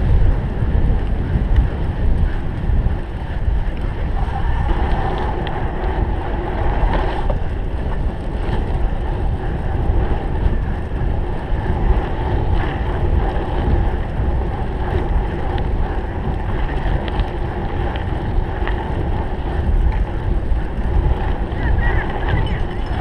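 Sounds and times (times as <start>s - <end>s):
bike clicking and rattling: 0.0s - 23.0s
wind buffeting microphone: 0.0s - 23.0s.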